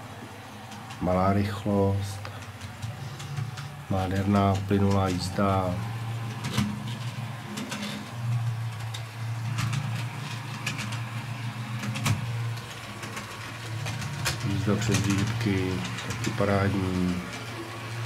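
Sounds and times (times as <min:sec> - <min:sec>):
wheels clicking over rail joints: 0:00.6 - 0:18.0.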